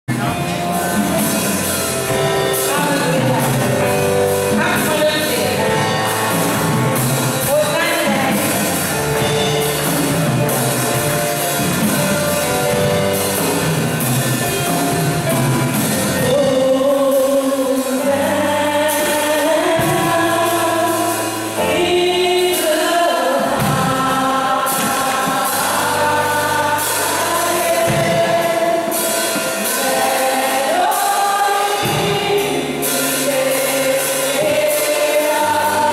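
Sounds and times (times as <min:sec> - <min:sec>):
instrumental accompaniment: 0:00.1 - 0:35.9
women's gospel choir singing: 0:00.4 - 0:35.9.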